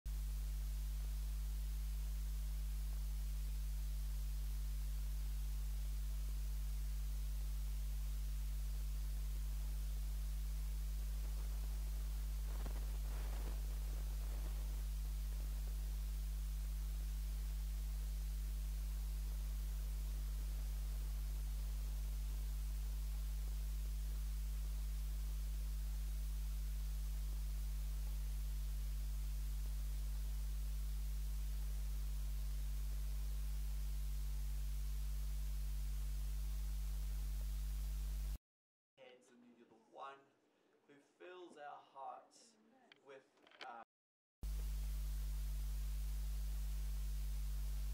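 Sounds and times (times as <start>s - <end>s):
electrical mains hum: 0.1s - 38.4s, 44.4s - 47.9s
faint hiss: 0.1s - 38.4s, 44.5s - 47.9s.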